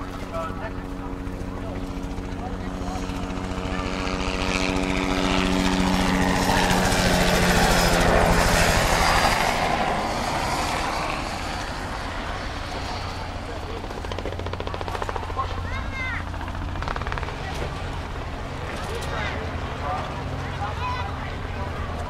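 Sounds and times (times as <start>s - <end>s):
helicopter flying past: 0.0s - 22.0s.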